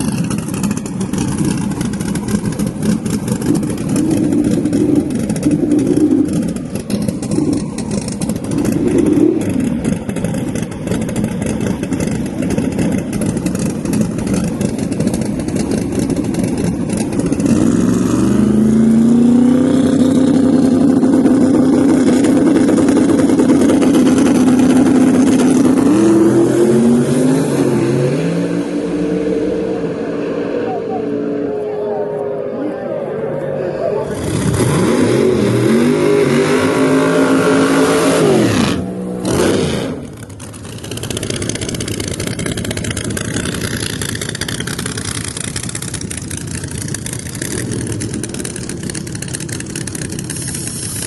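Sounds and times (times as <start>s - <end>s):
drag car engine revving: 0.0s - 51.0s.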